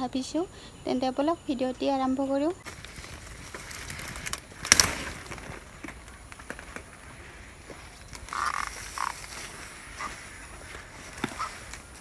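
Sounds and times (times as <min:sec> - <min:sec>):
leaves and stems rustling: 0:01.8 - 0:12.0.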